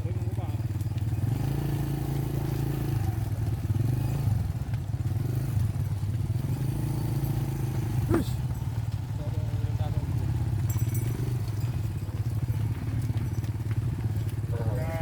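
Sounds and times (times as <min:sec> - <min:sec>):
small motorcycle engine droning: 0:00.0 - 0:15.0.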